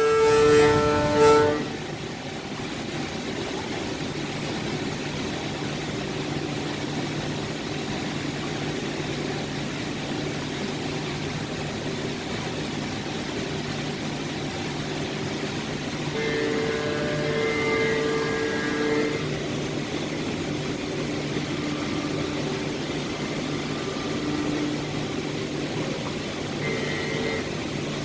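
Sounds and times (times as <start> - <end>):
milling machine humming: 0.0 - 28.0.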